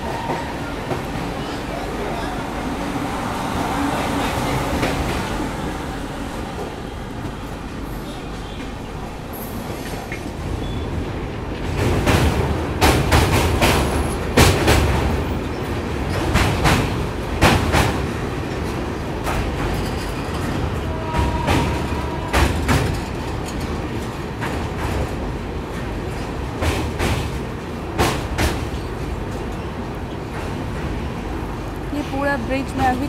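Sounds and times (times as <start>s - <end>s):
train rumbling: 0.0s - 33.0s
wheels clacking over rail joints: 0.0s - 33.0s.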